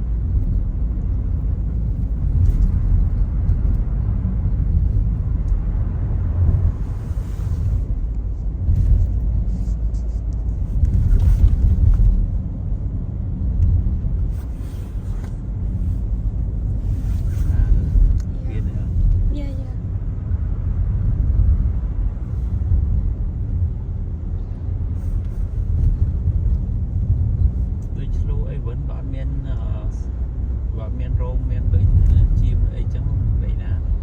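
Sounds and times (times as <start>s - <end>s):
road and engine rumble: 0.0s - 34.0s.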